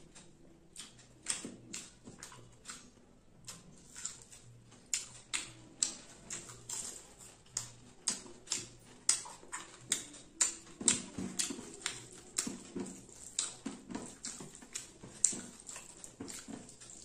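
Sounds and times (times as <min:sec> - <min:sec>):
chewing with wet mouth smacks: 0:00.0 - 0:17.0.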